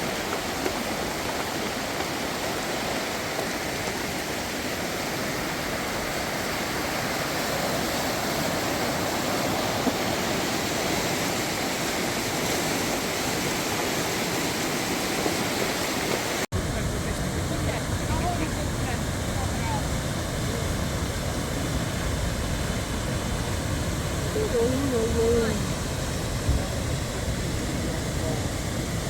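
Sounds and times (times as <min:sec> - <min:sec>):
fast water rushing: 0:00.0 - 0:29.0.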